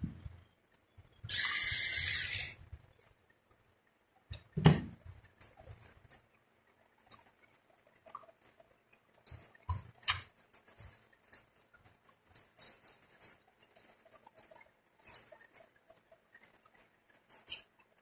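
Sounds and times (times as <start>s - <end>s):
small parts and tools clicking: 0.2s - 18.0s.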